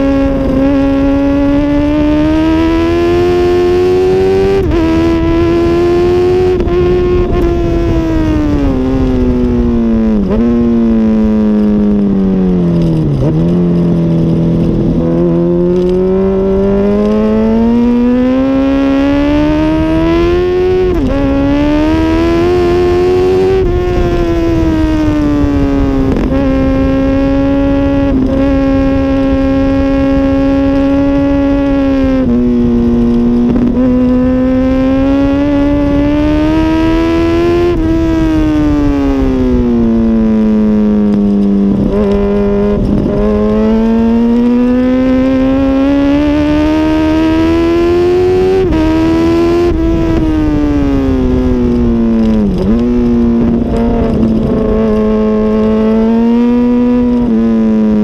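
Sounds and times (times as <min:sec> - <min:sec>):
motorcycle engine at speed: 0:00.0 - 0:58.0.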